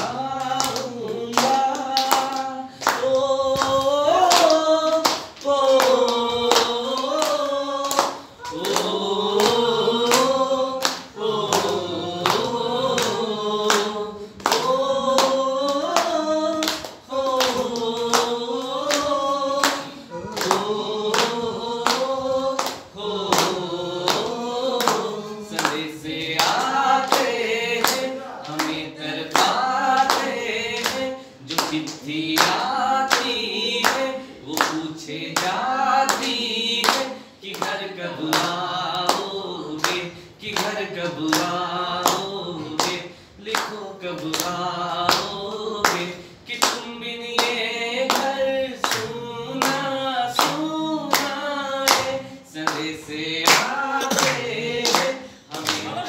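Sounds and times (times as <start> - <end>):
man singing unaccompanied: 0.0 - 56.0
rhythmic hand-clapping: 0.0 - 56.0.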